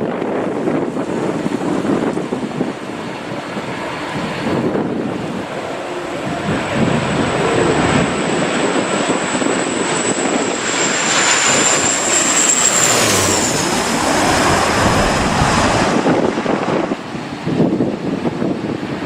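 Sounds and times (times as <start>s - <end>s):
airplane engines running loud: 0.0s - 19.0s.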